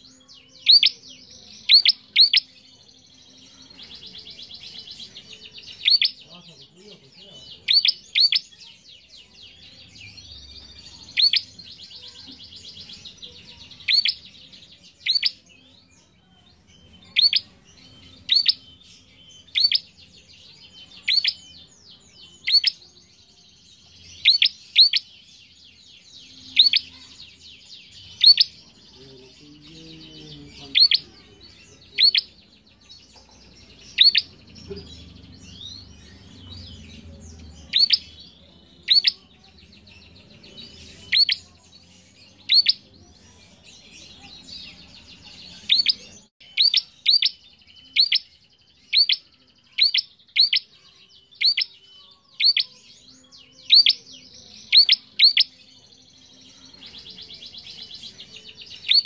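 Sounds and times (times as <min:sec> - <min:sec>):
bird chirps sweeping downward: 0:00.0 - 0:02.6, 0:03.3 - 0:06.5, 0:07.3 - 0:08.7, 0:09.4 - 0:28.8, 0:30.0 - 0:59.0.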